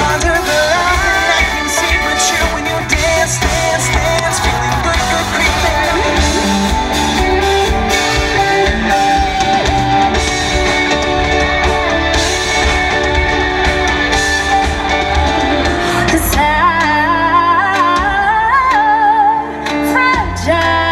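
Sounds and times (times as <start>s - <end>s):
electric guitar: 0.0s - 20.9s
live rock band music: 0.0s - 20.9s.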